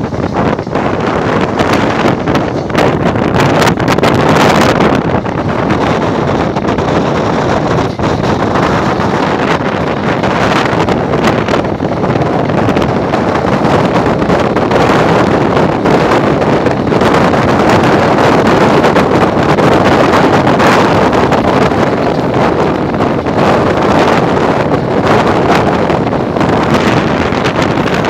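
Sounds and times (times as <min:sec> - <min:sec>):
train running on track: 0:00.0 - 0:28.0
wind buffeting microphone: 0:00.0 - 0:28.0.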